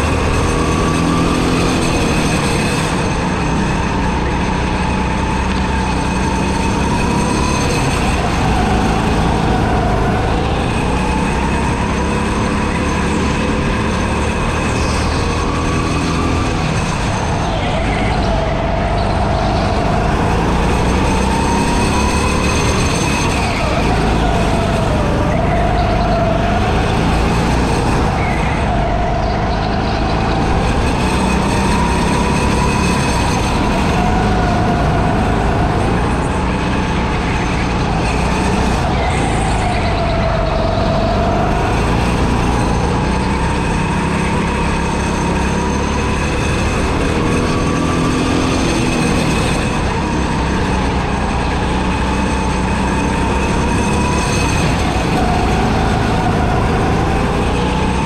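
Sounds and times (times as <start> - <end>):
go-kart motor revving: 0.0 - 58.0
road noise: 0.0 - 58.0.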